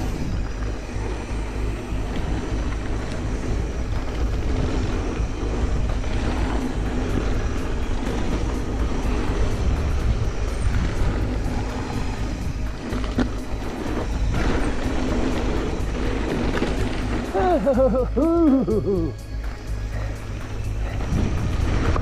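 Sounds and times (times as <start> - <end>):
bike tyres on dirt trail: 0.0 - 22.0
wind rushing on microphone: 0.0 - 22.0.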